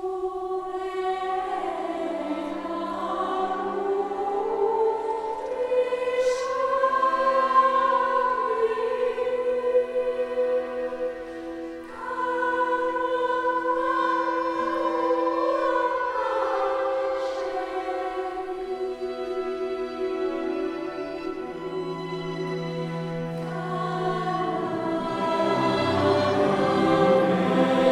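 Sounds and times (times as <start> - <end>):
choir singing sustained chords: 0.0 - 27.9
hissed s consonant: 0.0 - 27.9.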